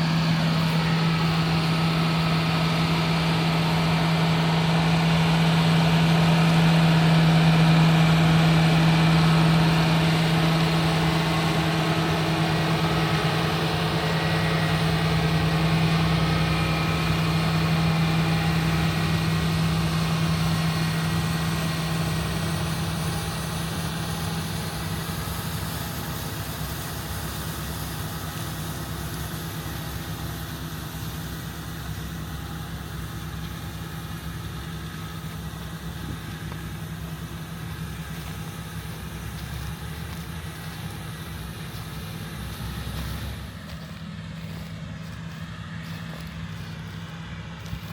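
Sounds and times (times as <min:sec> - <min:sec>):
diesel tractor engine droning: 0:00.0 - 0:47.9.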